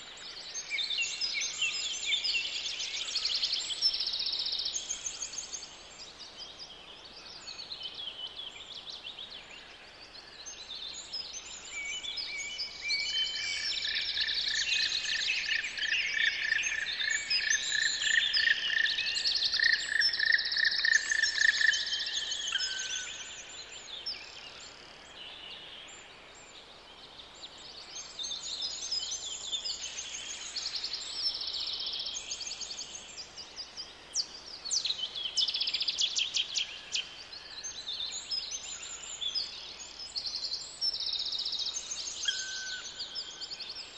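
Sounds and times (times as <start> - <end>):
songbirds singing and chirping: 0.0 - 43.9.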